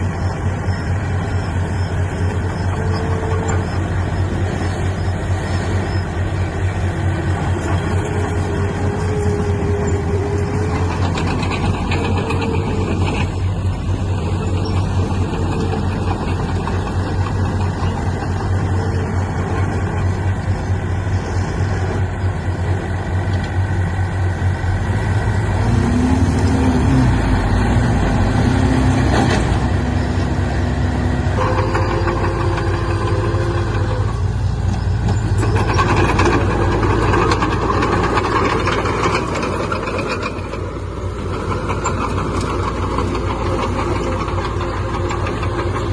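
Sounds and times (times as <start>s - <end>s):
heavy diesel engines rumbling: 0.0s - 45.9s.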